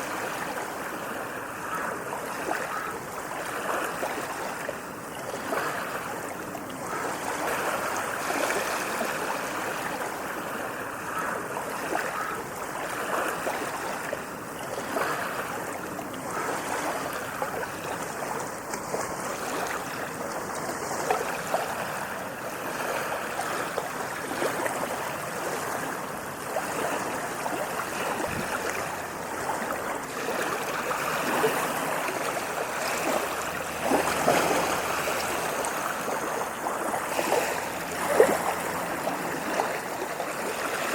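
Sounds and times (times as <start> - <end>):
ocean waves on sandy beach: 0.0 - 40.9.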